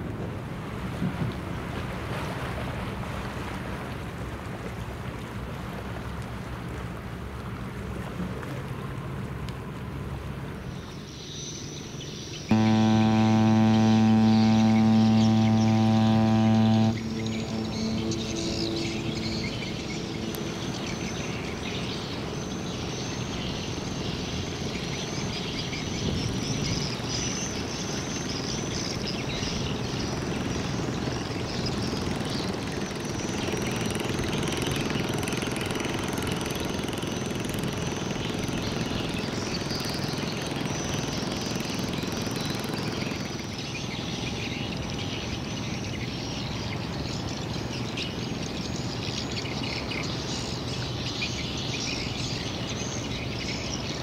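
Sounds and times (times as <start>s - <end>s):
cargo ship rumble and wash: 0.0s - 11.1s, 12.5s - 45.5s.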